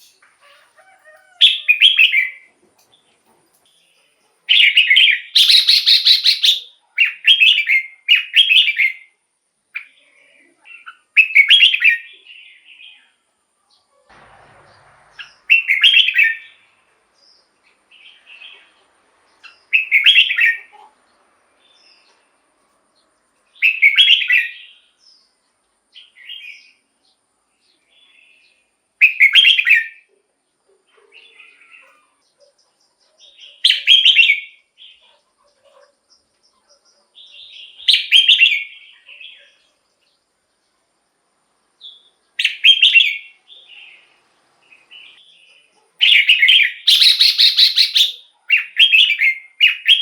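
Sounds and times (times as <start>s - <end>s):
soft bird chirps: 0.0s - 50.0s.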